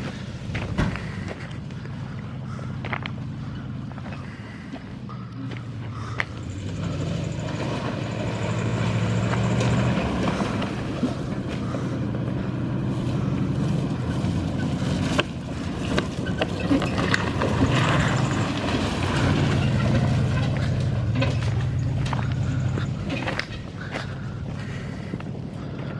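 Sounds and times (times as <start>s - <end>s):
truck engine under load: 0.0s - 25.9s.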